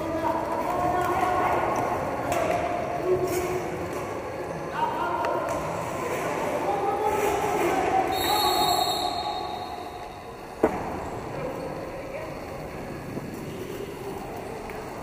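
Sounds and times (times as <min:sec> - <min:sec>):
skate wheels rolling on rink: 0:00.0 - 0:15.0.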